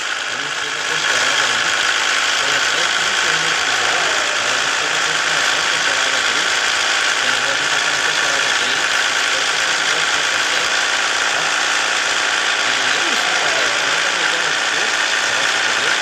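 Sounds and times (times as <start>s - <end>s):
truck engine drone: 0.0s - 16.0s.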